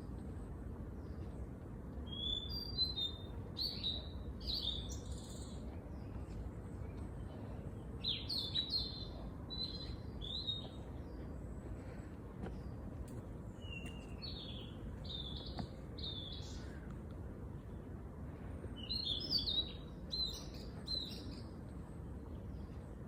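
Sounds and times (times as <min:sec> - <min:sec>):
low background rumble: 0:00.0 - 0:23.0
songbirds chirping: 0:00.0 - 0:23.0.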